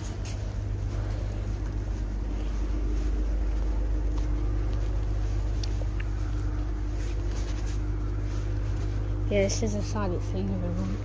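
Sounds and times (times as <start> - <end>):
diesel trains idling: 0.0 - 11.0.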